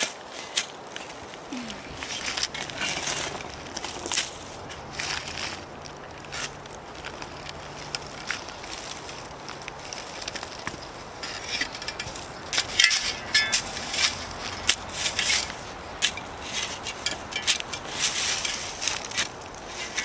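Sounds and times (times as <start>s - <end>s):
digging in soil: 0.0s - 20.0s.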